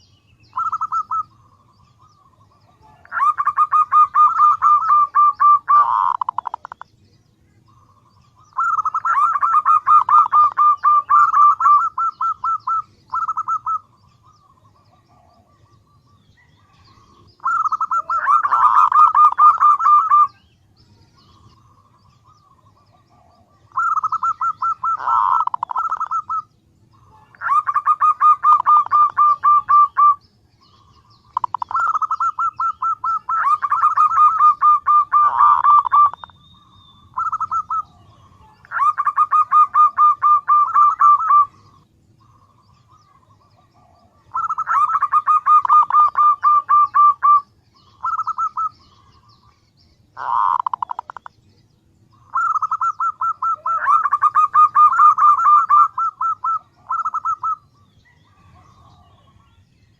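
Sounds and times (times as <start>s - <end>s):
dove calling: 0.0s - 59.9s.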